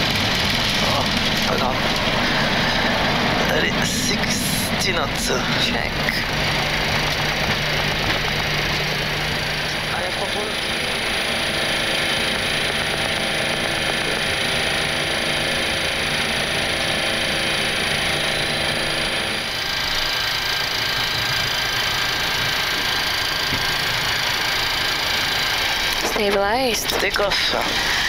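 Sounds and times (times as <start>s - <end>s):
cockpit equipment hum and rush: 0.0s - 28.0s
steady high whine: 0.0s - 28.0s.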